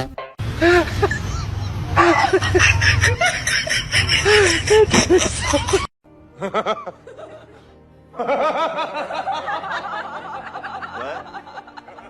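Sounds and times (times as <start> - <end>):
background music: 0.0 - 0.8, 2.1 - 12.0
people laughing: 0.6 - 12.0.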